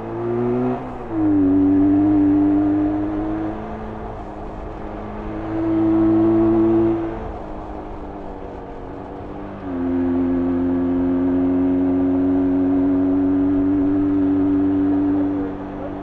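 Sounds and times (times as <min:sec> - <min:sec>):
motorcycle engine revving: 0:00.0 - 0:07.3, 0:09.6 - 0:16.0.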